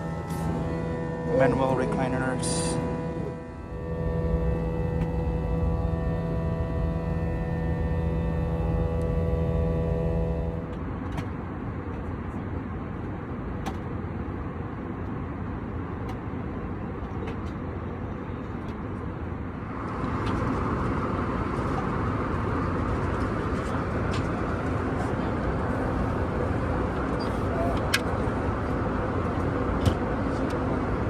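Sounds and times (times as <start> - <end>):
airliner cabin noise: 0.0 - 31.0.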